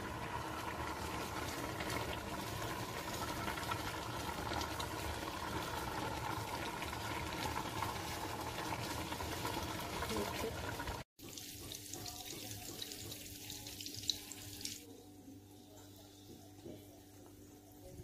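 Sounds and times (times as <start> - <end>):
water boiling in a pot: 0.0 - 14.6.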